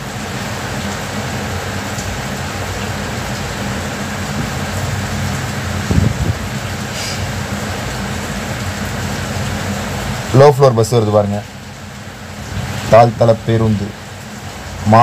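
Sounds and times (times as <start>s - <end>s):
traffic hum and hiss: 0.0s - 15.0s.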